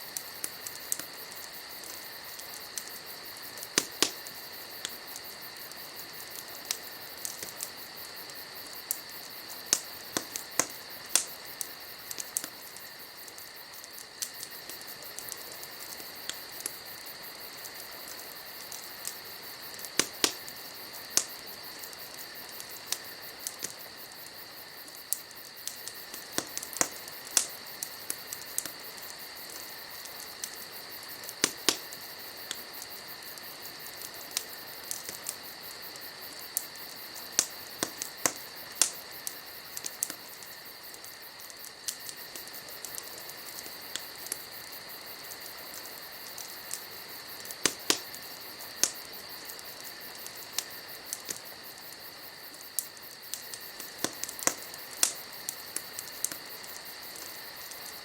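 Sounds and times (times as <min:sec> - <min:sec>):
night insects chorus: 0:00.0 - 0:58.0
wood fire crackling and popping: 0:00.0 - 0:58.0.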